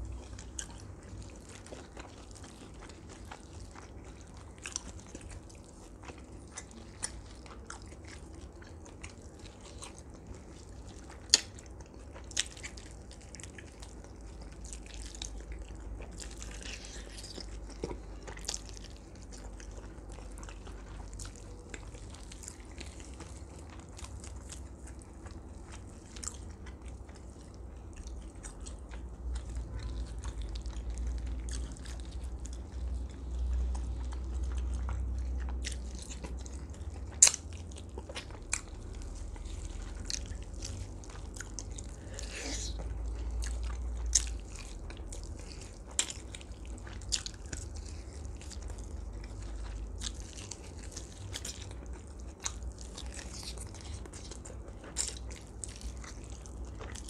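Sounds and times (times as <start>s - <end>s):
biting and chewing roasted duck: 0.0s - 57.0s.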